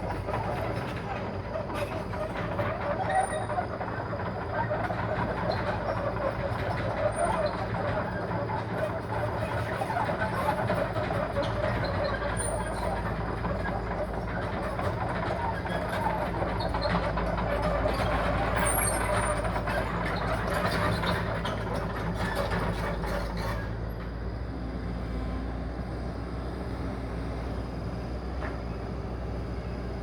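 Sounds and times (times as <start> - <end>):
heavy machinery clatter: 0.0 - 24.6
large diesel engine running: 0.0 - 30.0.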